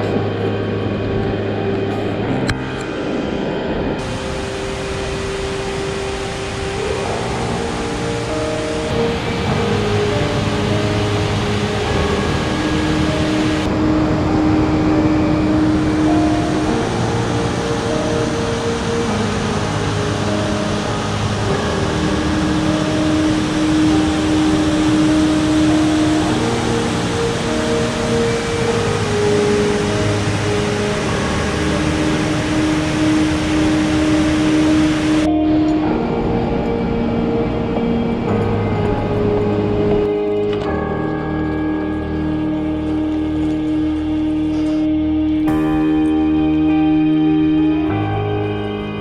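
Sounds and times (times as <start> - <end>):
soft background music: 0.0 - 49.0
waterfall rushing over rocks: 0.0 - 49.0.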